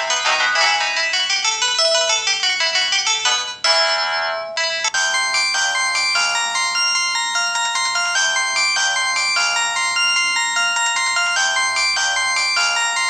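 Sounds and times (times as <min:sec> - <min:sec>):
polyphonic phone ringtone: 0:00.0 - 0:13.0.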